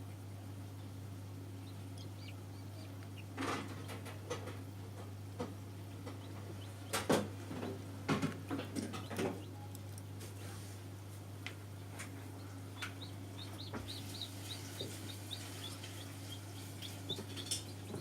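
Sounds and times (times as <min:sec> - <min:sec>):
egg incubator humming: 0:00.0 - 0:18.0.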